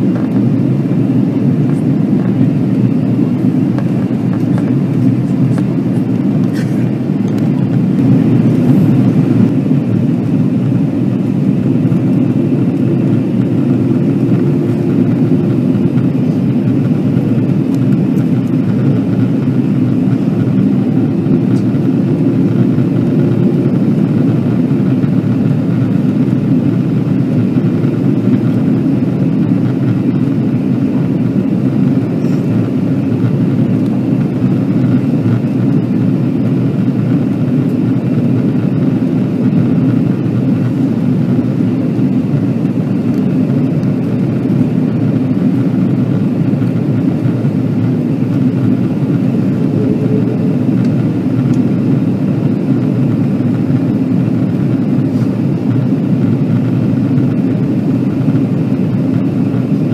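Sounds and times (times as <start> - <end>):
jet engine drone: 0.0 - 59.9.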